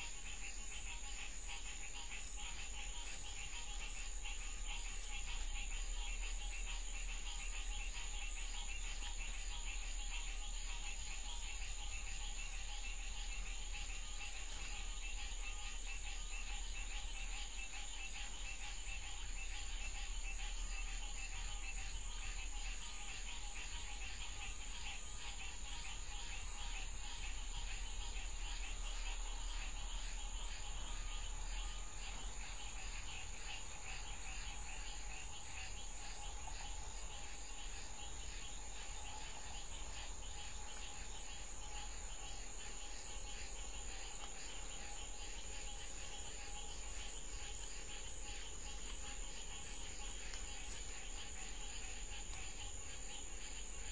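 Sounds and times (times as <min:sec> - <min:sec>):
crickets and insects chirping: 0:00.0 - 0:53.9
low steady hum: 0:00.0 - 0:53.9.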